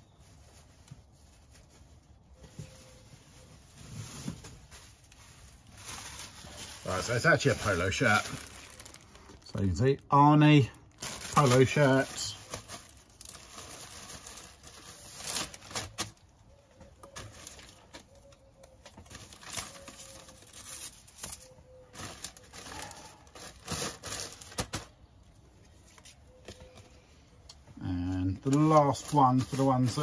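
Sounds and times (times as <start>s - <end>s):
plastic bags rustling and crinkling: 0.0s - 9.9s, 10.5s - 25.2s, 28.2s - 30.0s.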